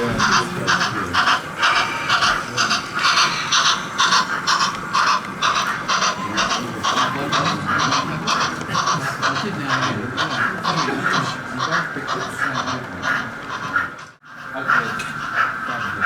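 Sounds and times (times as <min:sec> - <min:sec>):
model steam locomotive chuffing: 0:00.0 - 0:16.0
murmur of crowd chatter: 0:00.0 - 0:16.0.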